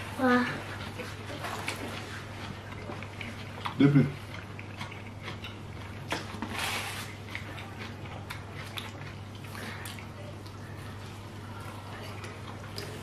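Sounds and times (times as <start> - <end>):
people eating and handling food: 0.0 - 13.0.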